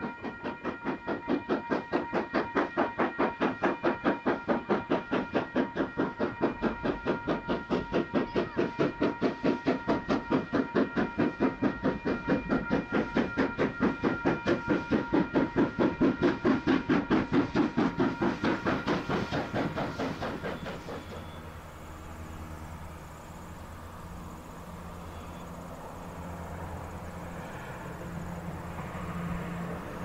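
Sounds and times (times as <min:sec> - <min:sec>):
level-crossing alarm bell: 0:00.0 - 0:27.7
steam locomotive chuffing: 0:00.0 - 0:30.0.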